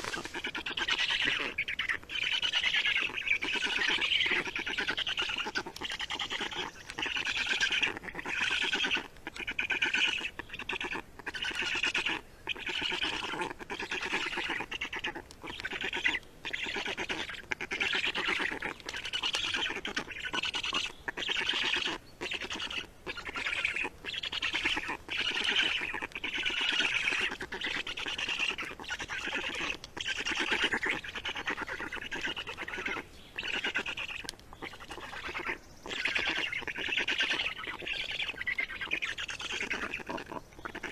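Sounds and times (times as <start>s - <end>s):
small bird rasping calls: 0.0s - 40.9s.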